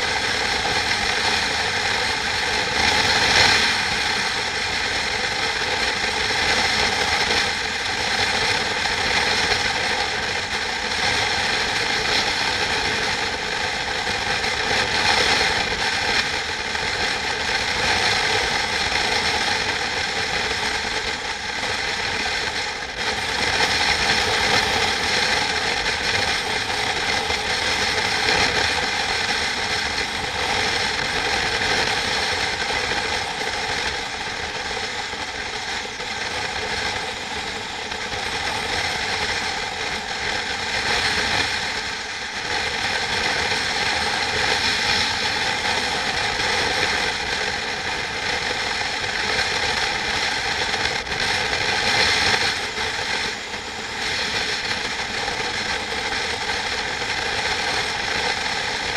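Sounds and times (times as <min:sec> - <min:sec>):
machine running noise: 0:00.0 - 0:58.9.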